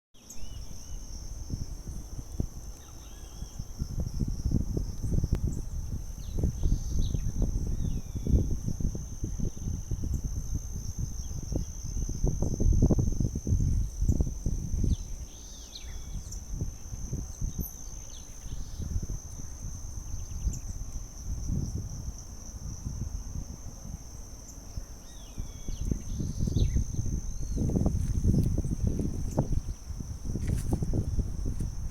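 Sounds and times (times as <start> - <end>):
high insect trill: 0.2 - 31.9.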